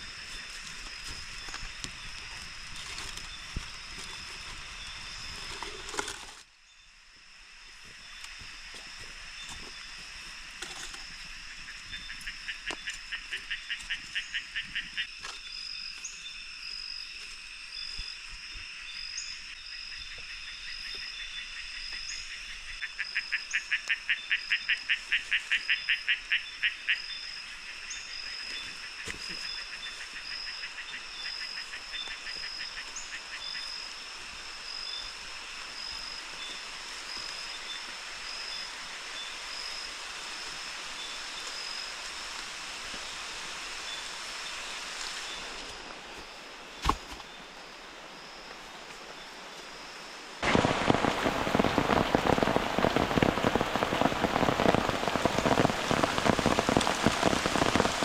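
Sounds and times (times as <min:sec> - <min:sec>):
rain hiss: 0:00.0 - 0:19.6, 0:20.3 - 0:58.0.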